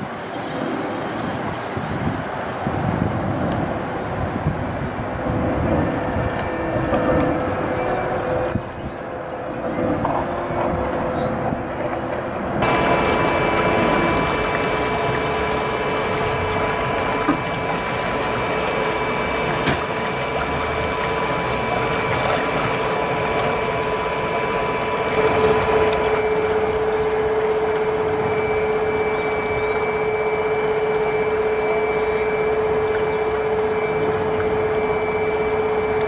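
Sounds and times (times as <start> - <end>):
electric outboard motor whine: 0.0 - 36.0
propeller wash churning: 0.0 - 36.0.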